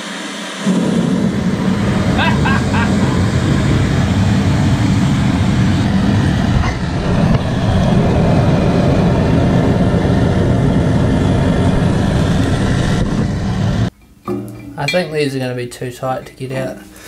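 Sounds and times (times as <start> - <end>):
gas torch hissing: 0.0 - 13.9.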